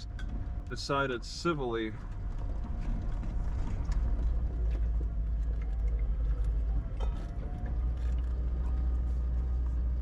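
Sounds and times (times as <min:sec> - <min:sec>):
car road rumble: 0:00.0 - 0:10.0
gravel ticks under tyres: 0:00.0 - 0:10.0.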